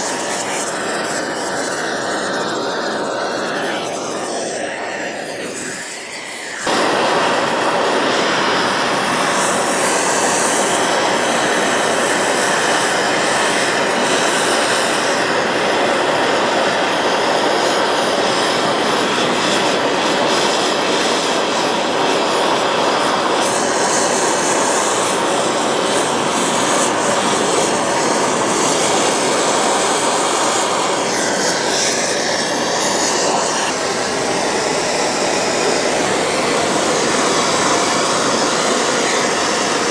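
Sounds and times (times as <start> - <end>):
brazing torch flame rushing: 0.0 - 39.9.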